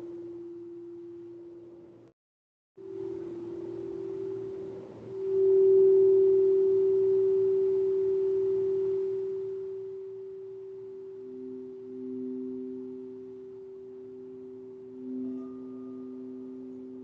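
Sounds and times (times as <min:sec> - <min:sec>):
lower ringing tone: 0:00.0 - 0:02.1, 0:02.8 - 0:17.0
ringing pure tone: 0:00.0 - 0:02.1, 0:02.8 - 0:17.0.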